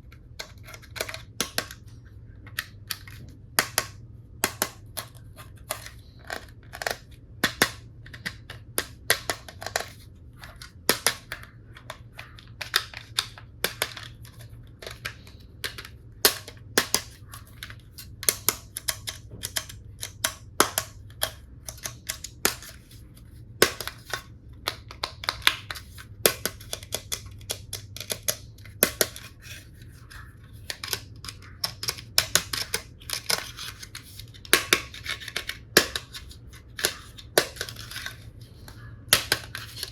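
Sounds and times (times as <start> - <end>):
plastic toy pieces clicking: 0.3 - 1.8, 2.5 - 22.9, 23.6 - 38.3, 39.1 - 39.9.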